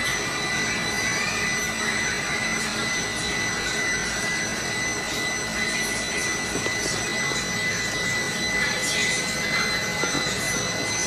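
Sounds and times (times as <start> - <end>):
electric massager motor whir: 0.0 - 11.0.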